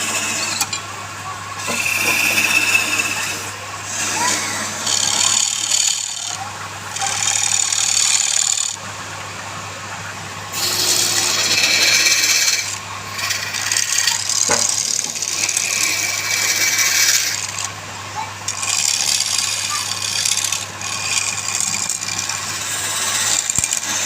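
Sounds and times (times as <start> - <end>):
tool scraping wood: 0.0 - 0.8, 1.6 - 8.8, 10.5 - 17.7, 18.5 - 24.0.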